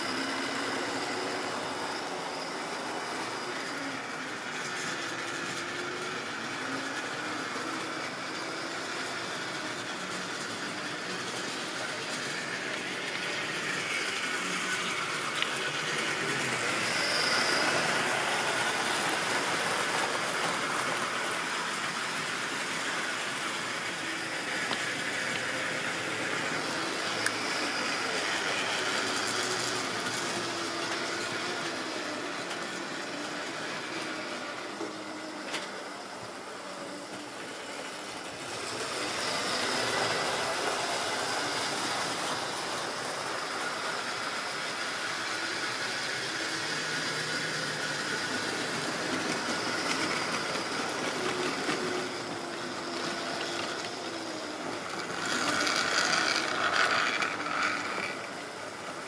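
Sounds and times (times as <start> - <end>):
locomotive motors whirring: 0.0 - 59.0
wheels rattling on track: 1.4 - 59.0.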